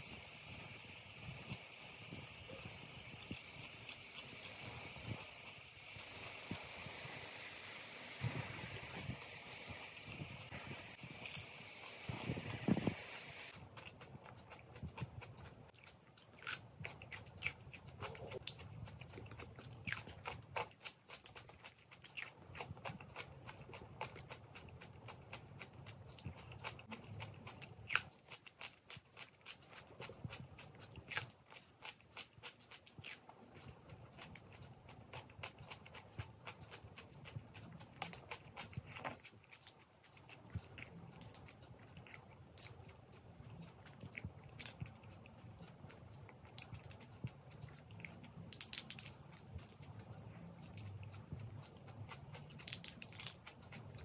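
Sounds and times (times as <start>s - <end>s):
chewing crunchy cucumber: 0.0s - 48.5s, 49.1s - 54.0s.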